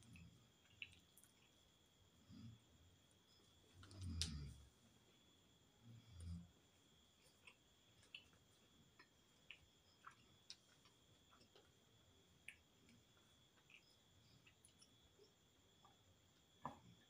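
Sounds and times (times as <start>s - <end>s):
small eating clicks: 0.0s - 2.7s, 3.3s - 4.7s, 6.0s - 17.0s.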